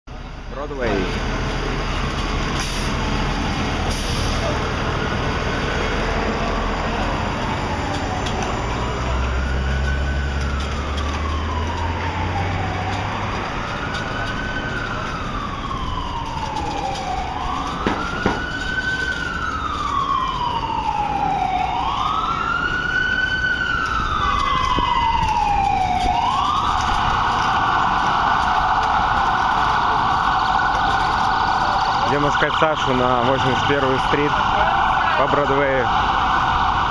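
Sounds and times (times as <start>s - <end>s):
street traffic: 0.0s - 36.9s
emergency vehicle siren wailing: 0.1s - 36.9s
low engine rumble: 0.1s - 36.9s.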